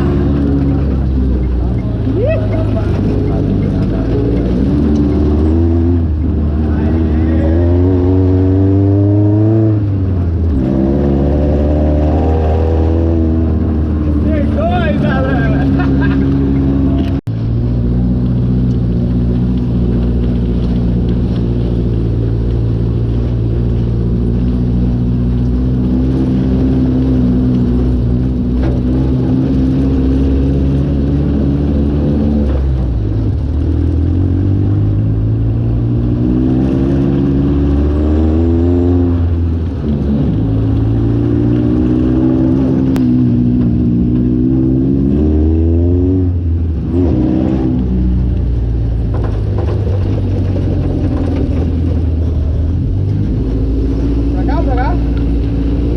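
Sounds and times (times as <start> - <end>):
buggy engine running under load: 0.0 - 55.9.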